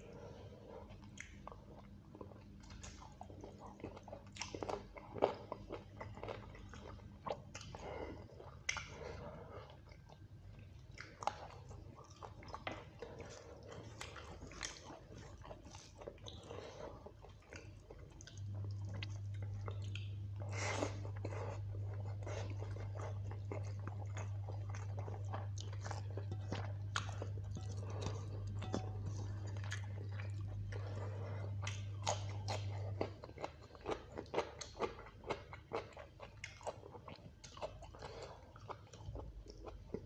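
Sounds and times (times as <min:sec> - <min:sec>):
steady low hum: 0:00.0 - 0:40.0
man chewing and smacking: 0:00.1 - 0:40.0.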